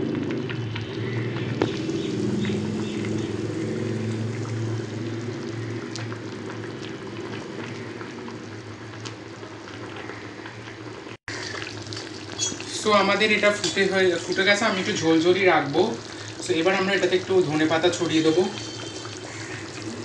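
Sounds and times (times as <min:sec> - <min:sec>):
steady low hum: 0:00.0 - 0:16.5
curry bubbles popping: 0:00.0 - 0:20.0.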